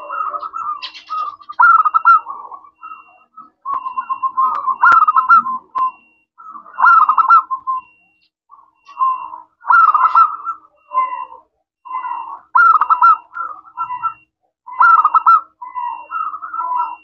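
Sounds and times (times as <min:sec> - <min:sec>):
dove cooing: 0:00.0 - 0:08.0, 0:08.6 - 0:17.0.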